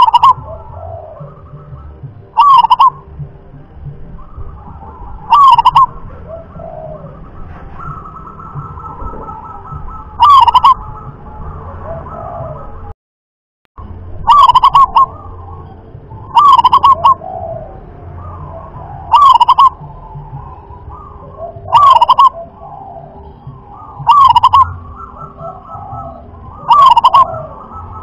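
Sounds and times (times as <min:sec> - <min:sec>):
dove cooing: 0:00.0 - 0:03.3, 0:03.9 - 0:12.9, 0:14.2 - 0:28.0
faint bird chirping: 0:00.0 - 0:12.9, 0:14.2 - 0:28.0.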